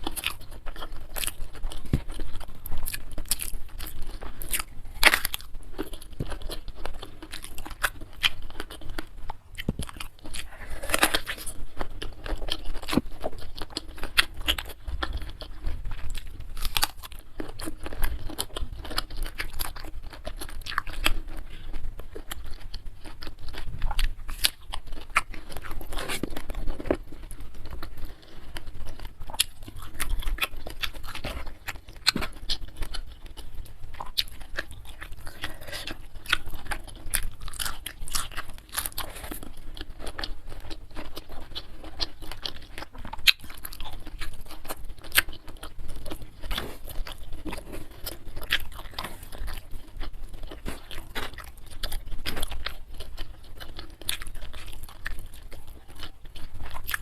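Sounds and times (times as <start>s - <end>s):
chewing with crisp crunches: 0.0s - 57.0s.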